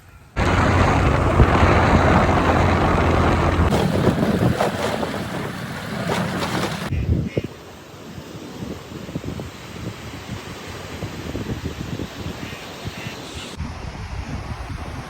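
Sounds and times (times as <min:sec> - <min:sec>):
wind buffeting microphone: 0:00.3 - 0:15.0.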